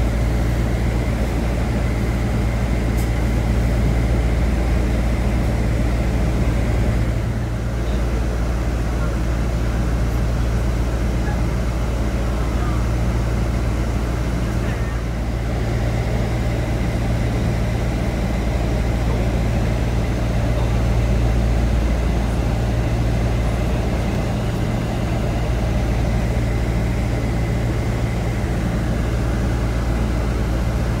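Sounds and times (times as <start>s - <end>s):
bus engine rumble: 0.0s - 31.0s.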